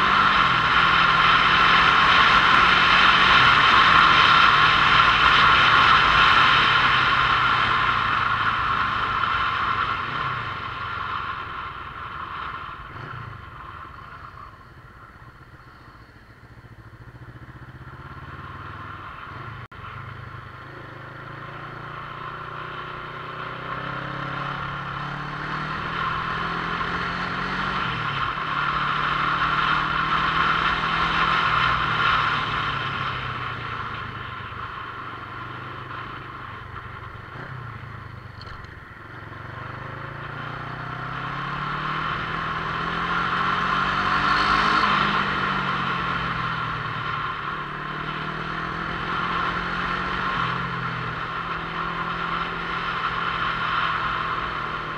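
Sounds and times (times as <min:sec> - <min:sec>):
motorcycle engine revving: 0:00.0 - 0:54.9
wind and road noise: 0:00.0 - 0:54.9.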